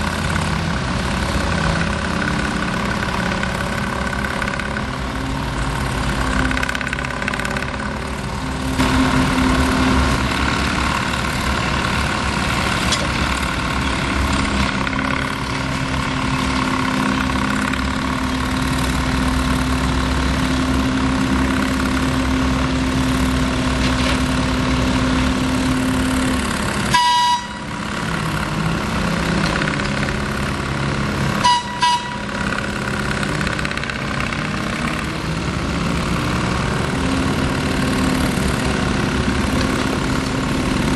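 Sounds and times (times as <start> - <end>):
locomotive engine running: 0.0 - 40.9.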